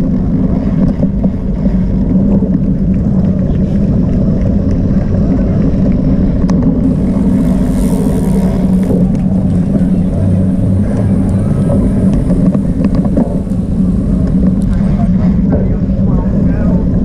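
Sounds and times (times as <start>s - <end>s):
constant low hum: 0.0s - 17.0s
low rumbling noise: 0.0s - 17.0s.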